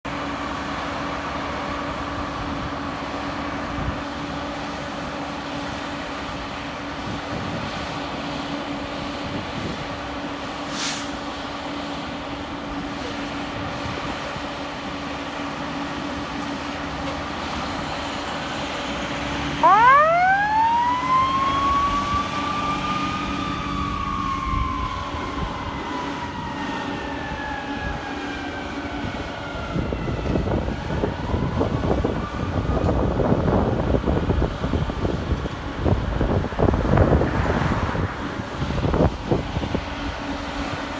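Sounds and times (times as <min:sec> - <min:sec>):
fire engine siren: 0:00.1 - 0:40.9
idling traffic hum: 0:00.1 - 0:40.9.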